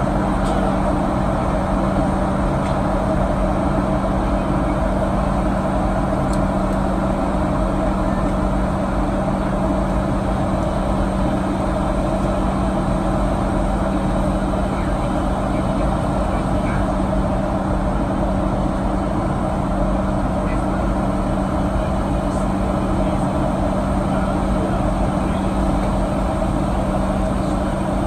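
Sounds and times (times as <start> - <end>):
airplane cabin noise: 0.0 - 28.0.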